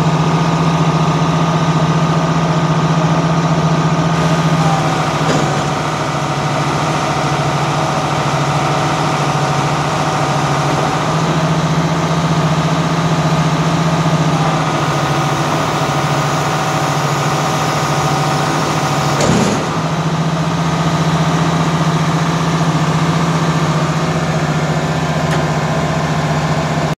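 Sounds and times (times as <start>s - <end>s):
tractor engine idling: 0.0s - 26.9s.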